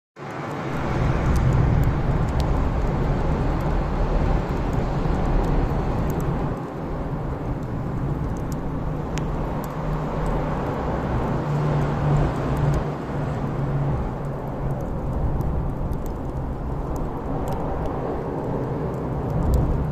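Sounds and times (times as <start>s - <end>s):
wood fire rumbling: 0.2s - 19.9s.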